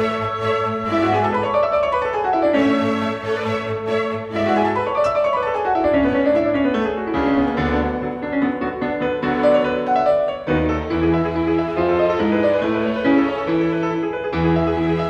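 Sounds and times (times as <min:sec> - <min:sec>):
classical-style piano music: 0:00.0 - 0:15.0.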